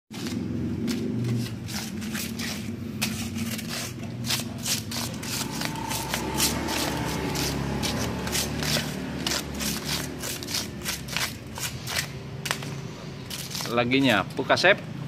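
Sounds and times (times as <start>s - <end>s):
scratchy sweeping on concrete: 0.1s - 14.2s.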